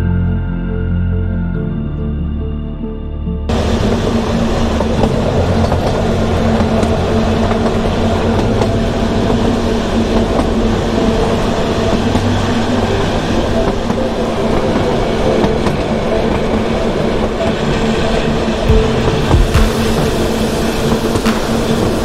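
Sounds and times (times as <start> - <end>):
train rumble and hum: 3.5 - 22.0.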